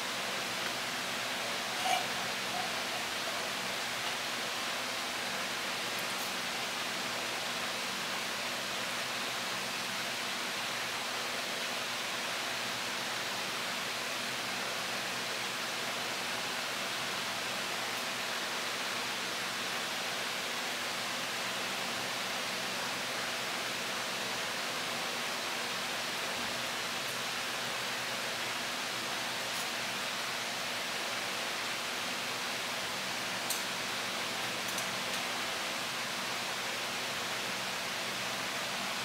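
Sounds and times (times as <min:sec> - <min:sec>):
steady hiss: 0:00.0 - 0:39.0.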